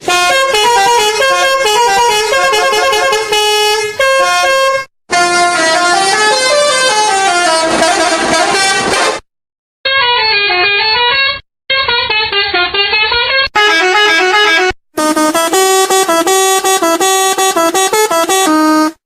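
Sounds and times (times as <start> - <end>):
musical air horn playing a tune: 0.0 - 9.2, 9.9 - 19.0.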